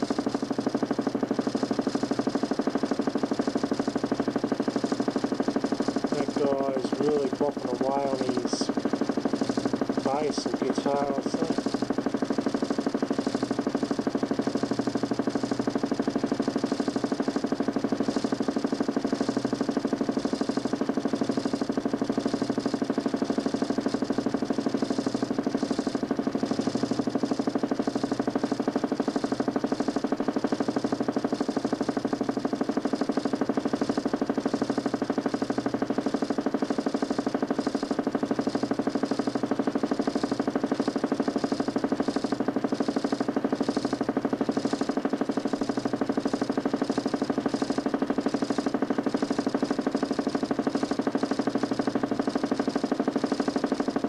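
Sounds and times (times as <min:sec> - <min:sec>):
motor spinning disc fluttering: 0:00.0 - 0:54.0.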